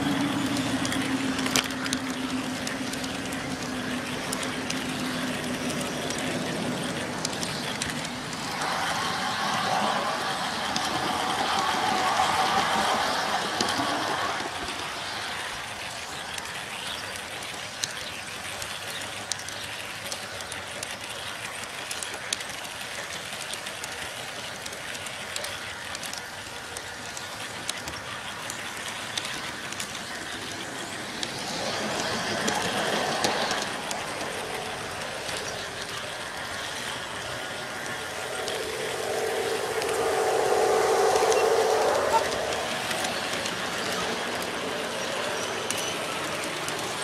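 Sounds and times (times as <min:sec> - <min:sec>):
model train rolling on track: 0:00.0 - 0:47.0.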